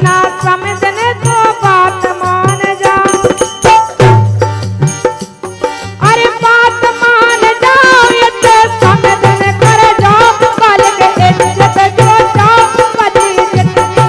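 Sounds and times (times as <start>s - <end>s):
percussion strikes: 0.0s - 14.0s.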